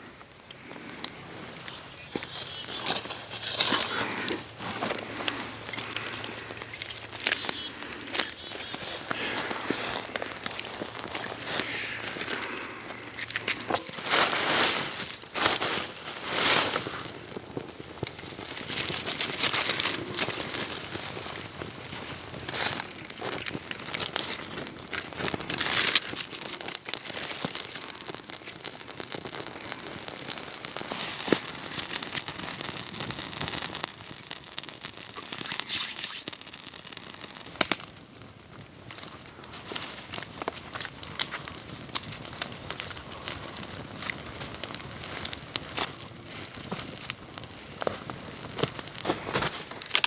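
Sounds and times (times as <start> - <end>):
burning wood popping: 0.0 - 50.0
campfire crackling and hissing: 0.0 - 50.0.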